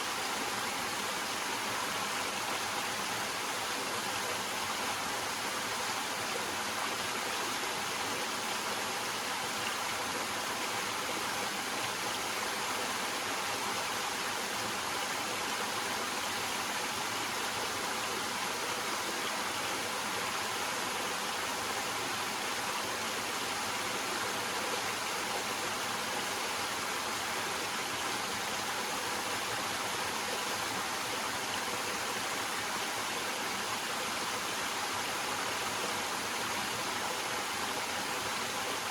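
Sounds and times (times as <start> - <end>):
water cascading over rocks: 0.0 - 38.9.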